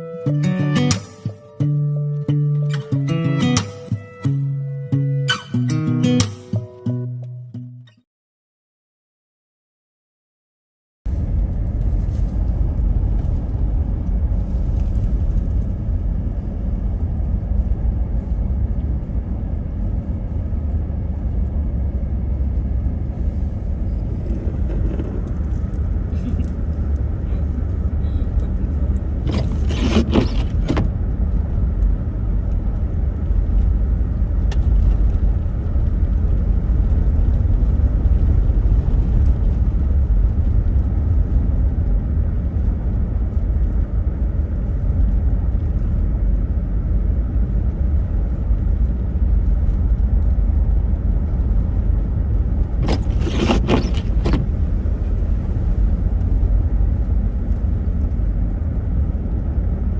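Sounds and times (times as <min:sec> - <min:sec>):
car engine and tyre rumble: 0:11.1 - 0:59.9.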